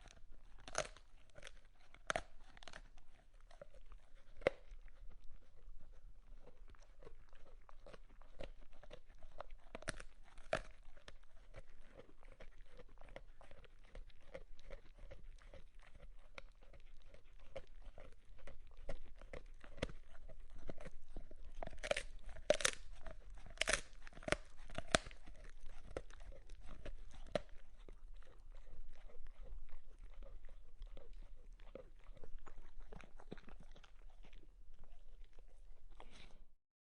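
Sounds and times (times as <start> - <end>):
dog chewing and crunching: 0.0 - 36.5.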